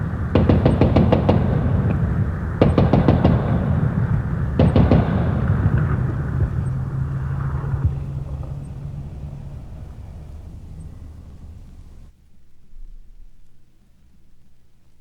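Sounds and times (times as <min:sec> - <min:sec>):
artillery gun reports: 0:00.0 - 0:12.1
low rumble: 0:00.0 - 0:12.1.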